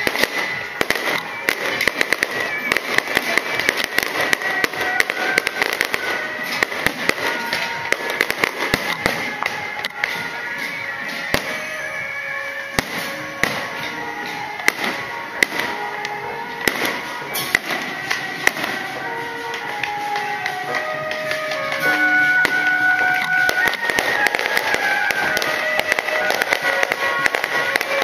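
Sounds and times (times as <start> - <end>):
fireworks bangs and crackles: 0.0 - 28.0
music playing: 0.0 - 28.0.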